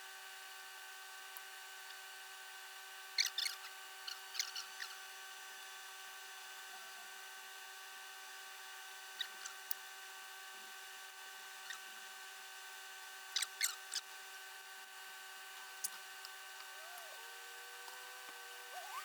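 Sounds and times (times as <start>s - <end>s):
electrical hum: 2.5s - 19.0s.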